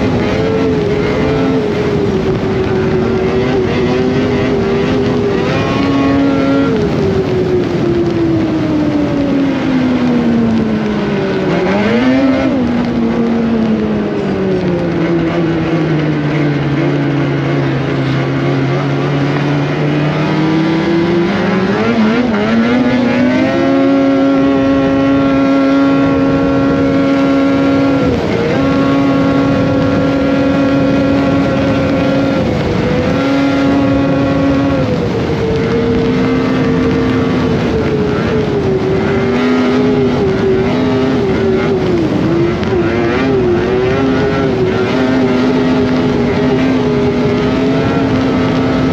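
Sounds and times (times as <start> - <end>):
snowmobile engine revving: 0.0 - 48.9.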